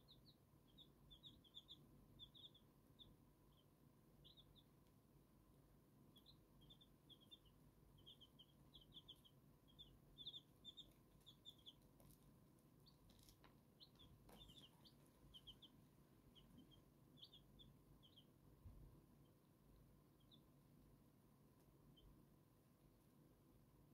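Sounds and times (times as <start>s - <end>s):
chicks peeping: 0.0s - 5.0s, 6.1s - 20.6s.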